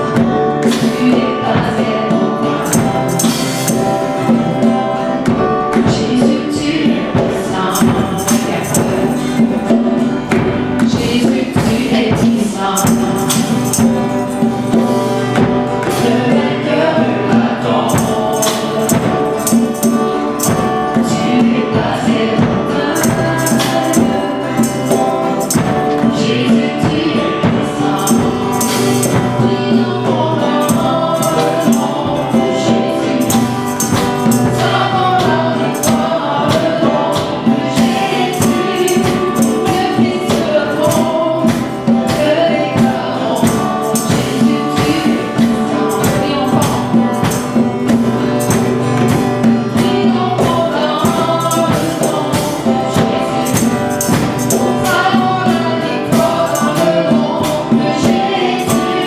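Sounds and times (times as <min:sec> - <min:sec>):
acoustic guitar: 0:00.0 - 0:59.0
keyboard: 0:00.0 - 0:59.0
tambourine beat: 0:00.0 - 0:59.0
voices singing a hymn: 0:00.0 - 0:59.0.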